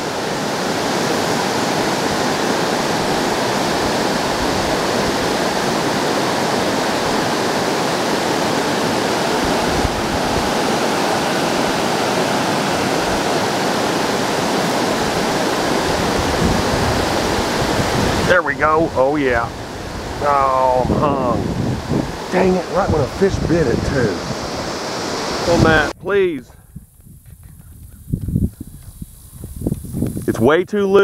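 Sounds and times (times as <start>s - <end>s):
water rushing over rocks: 0.0s - 26.2s.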